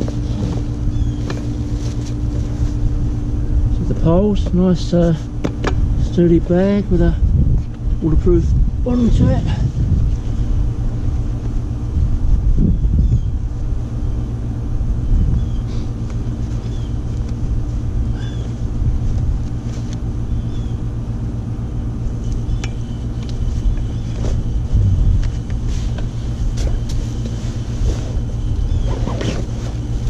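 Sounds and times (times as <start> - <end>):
constant low hum: 0.0 - 30.0
low outdoor rumble: 0.0 - 30.0.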